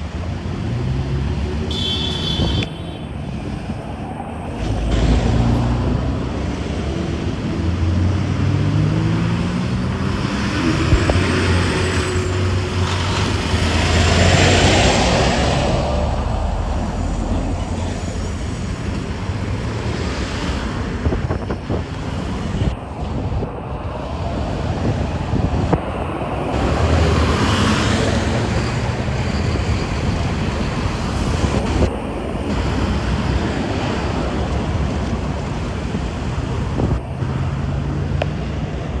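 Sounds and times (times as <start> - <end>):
expressway traffic: 0.0 - 39.0
wind noise on microphone: 0.0 - 39.0.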